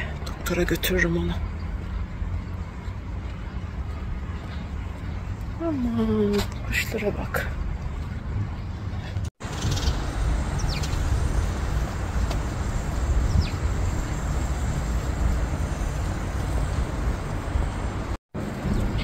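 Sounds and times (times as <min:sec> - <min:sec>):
birds chirping: 0:00.0 - 0:18.0
steady low rumble: 0:00.0 - 0:19.0.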